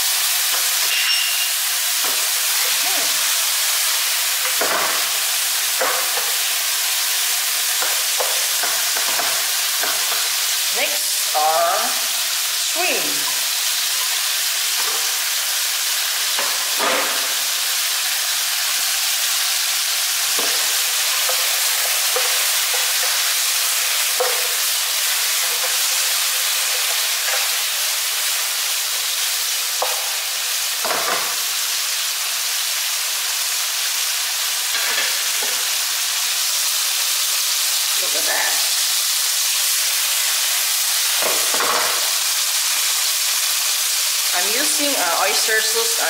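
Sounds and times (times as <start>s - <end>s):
food sizzling in a wok: 0.0s - 46.0s.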